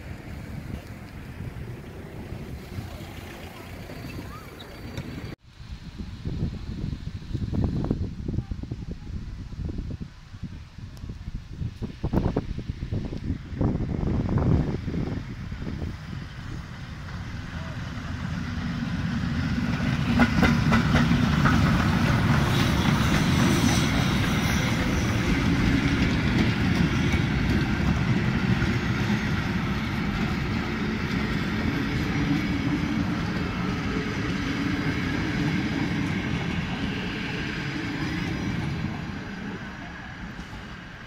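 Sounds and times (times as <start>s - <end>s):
train rumbling past with wheel clatter: 0.0s - 8.4s, 11.0s - 41.0s.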